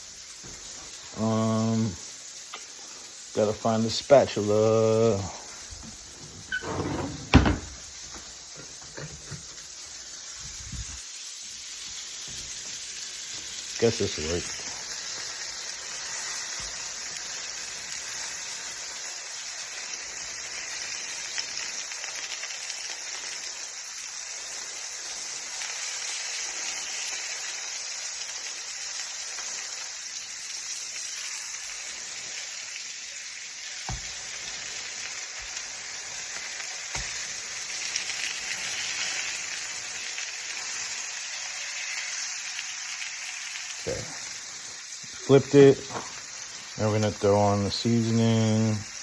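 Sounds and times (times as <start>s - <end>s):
burgers sizzling on a grill: 0.0s - 49.0s.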